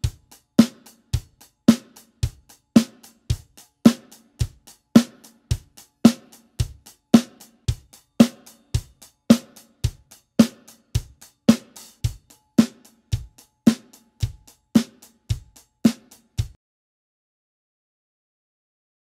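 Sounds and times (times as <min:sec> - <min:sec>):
bass drum: 0:00.0 - 0:16.6
hi-hat strokes: 0:00.0 - 0:16.6
snare drum: 0:00.0 - 0:16.6.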